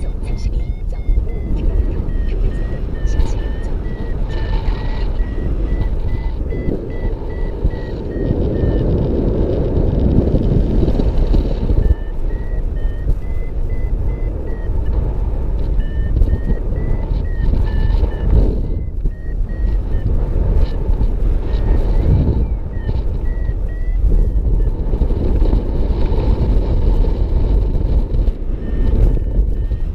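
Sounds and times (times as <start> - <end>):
variometer beeping: 0.0 - 29.9
wind rumble on microphone: 0.0 - 29.9.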